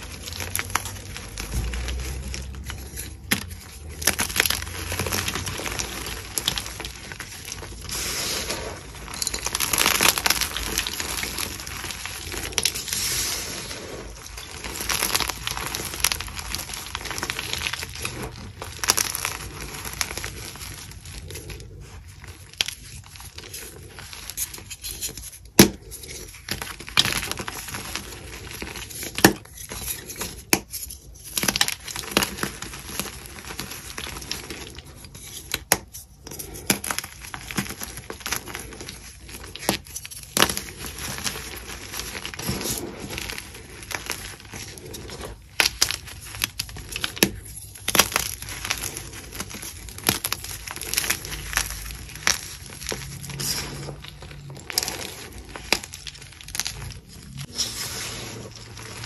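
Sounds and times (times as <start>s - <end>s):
chalk blocks crunching and crumbling: 0.0s - 59.0s.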